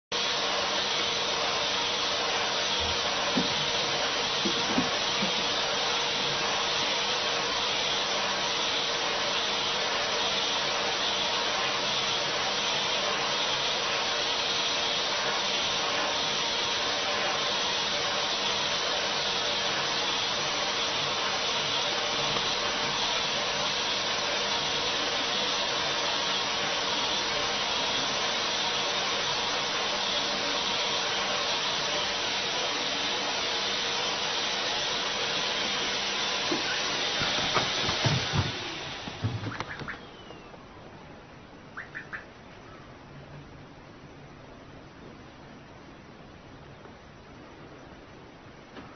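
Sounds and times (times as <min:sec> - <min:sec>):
vacuum cleaner running: 0:00.1 - 0:41.2.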